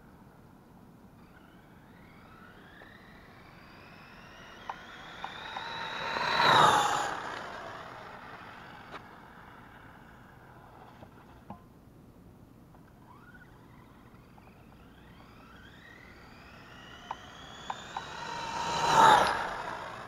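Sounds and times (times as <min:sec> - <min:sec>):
rc truck motor whine: 0:00.0 - 0:11.5, 0:12.7 - 0:20.0.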